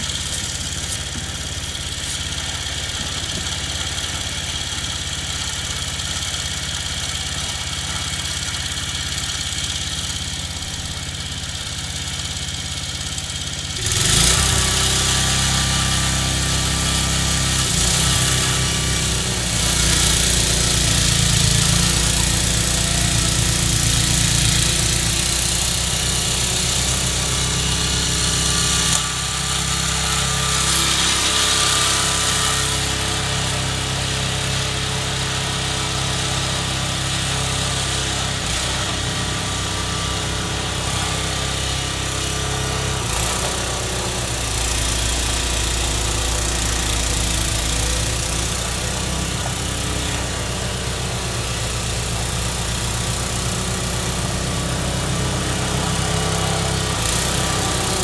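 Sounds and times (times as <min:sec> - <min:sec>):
snowblower engine running under load: 0:00.0 - 0:58.0.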